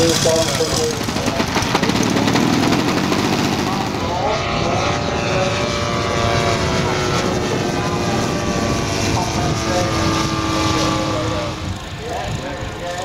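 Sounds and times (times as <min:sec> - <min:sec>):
model aeroplane engines droning: 0:00.0 - 0:13.0.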